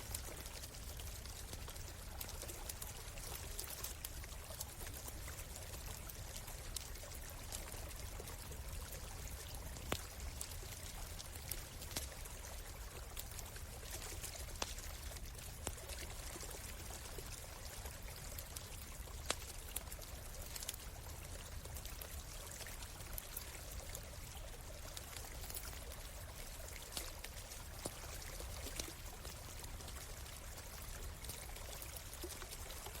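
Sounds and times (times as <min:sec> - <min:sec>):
campfire crackling: 0:00.0 - 0:33.0
stream flowing: 0:00.0 - 0:33.0.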